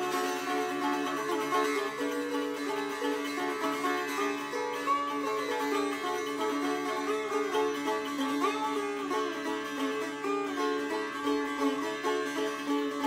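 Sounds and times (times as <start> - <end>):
sitar playing fast plucked strokes: 0.0 - 13.0.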